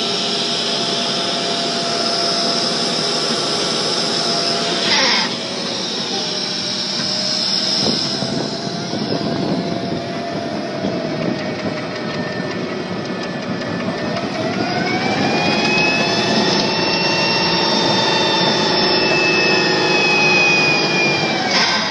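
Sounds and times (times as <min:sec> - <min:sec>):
gas turbine engine whining: 0:00.0 - 0:21.9.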